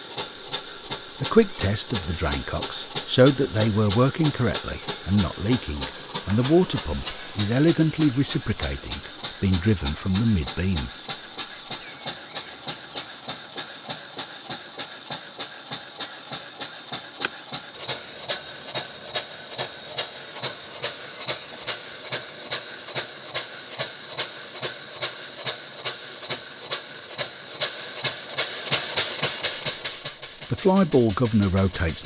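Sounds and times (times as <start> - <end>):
model engine exhaust puffing: 0.0 - 32.0
steady air hiss: 0.0 - 32.0.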